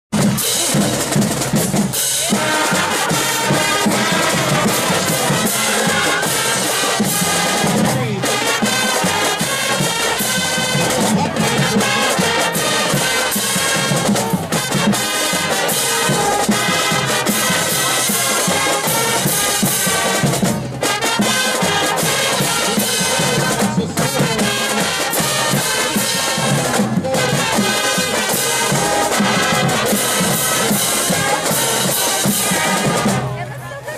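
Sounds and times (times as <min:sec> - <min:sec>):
drumline snare and tenor drums: 0:00.1 - 0:33.9
marching band brass: 0:00.1 - 0:33.9.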